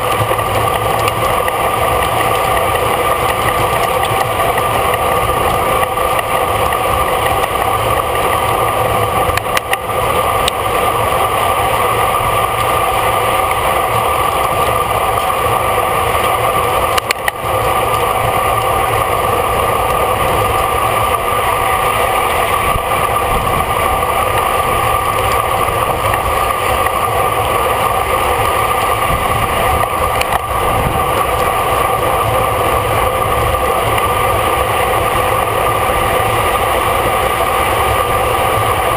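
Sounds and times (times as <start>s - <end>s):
road and tyre rumble: 0.0s - 38.9s
wind rush on microphone: 0.0s - 38.9s.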